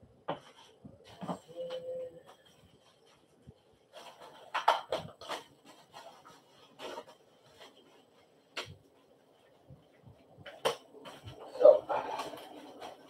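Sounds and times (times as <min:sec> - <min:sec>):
plastic wrap rustling and crinkling: 0:00.3 - 0:13.0.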